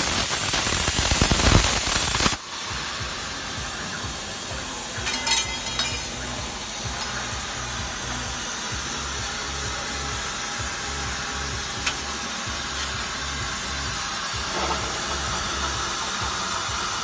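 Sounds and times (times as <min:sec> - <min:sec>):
plasma cutter hissing: 0:00.0 - 0:17.0.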